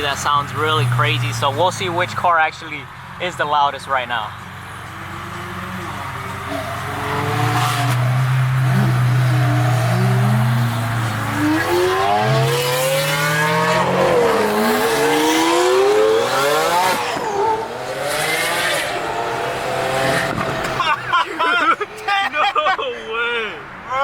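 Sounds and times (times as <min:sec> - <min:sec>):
sports car engines accelerating: 0:00.0 - 0:21.7.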